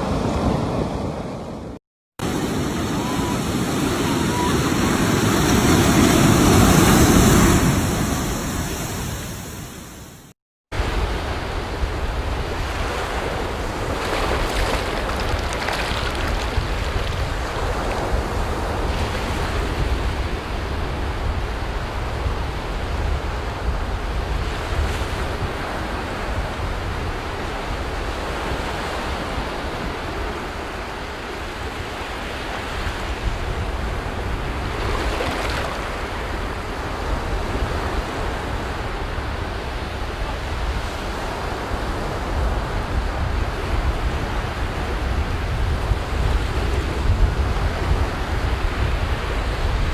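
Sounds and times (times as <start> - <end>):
wind rumble on microphone: 0.0 - 9.9, 10.8 - 49.9
ocean waves breaking on beach: 0.0 - 10.2, 10.8 - 49.9.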